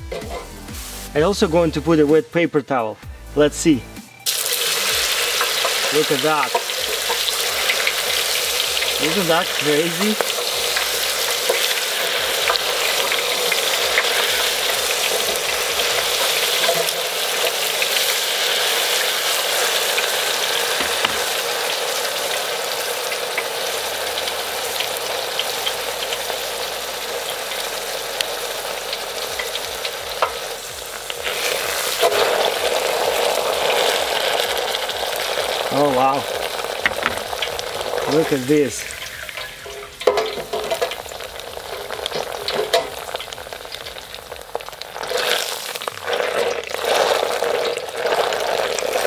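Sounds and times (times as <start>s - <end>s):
oil sizzling in deep fryer: 0.0s - 1.2s, 4.2s - 49.0s.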